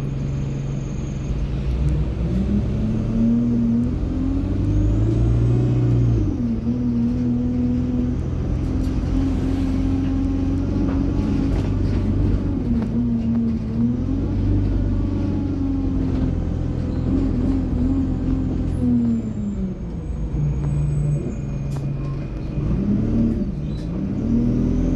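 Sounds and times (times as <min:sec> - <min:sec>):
bus engine accelerating: 0:00.0 - 0:24.9.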